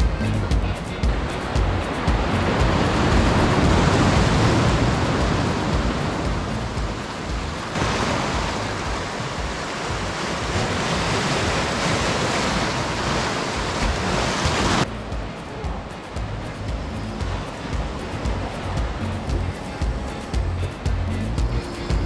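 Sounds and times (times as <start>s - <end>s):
surf washing over rocks: 0.0s - 22.0s.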